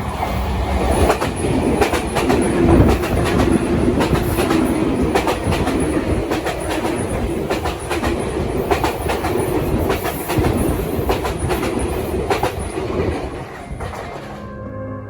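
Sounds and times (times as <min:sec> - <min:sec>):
train rolling rumble: 0:00.0 - 0:14.8
wheels clacking over rail joints: 0:00.8 - 0:14.5.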